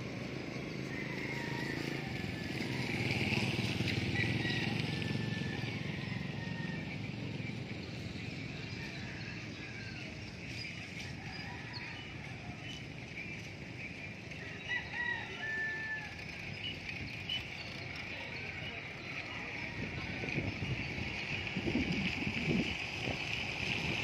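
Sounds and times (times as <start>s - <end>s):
motorcycle passing: 0.0s - 24.0s
outdoor background noise: 0.0s - 24.0s.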